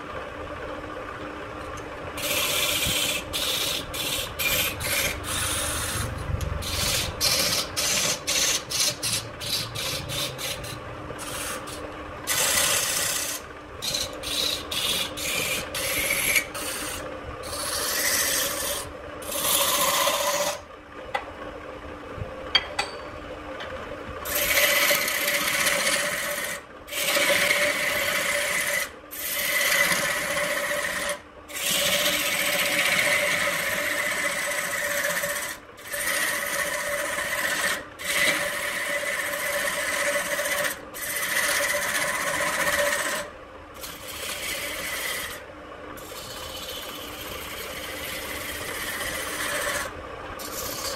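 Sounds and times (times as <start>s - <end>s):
electric motor hum: 1.8s - 21.2s, 23.6s - 45.4s, 46.0s - 50.9s
lathe chisel scraping wood: 2.2s - 20.6s, 24.3s - 45.4s, 46.0s - 50.9s.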